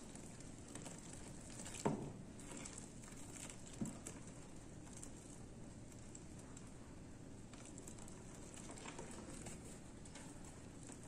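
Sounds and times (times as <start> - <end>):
hot water trickling into plastic tub: 0.0 - 11.0.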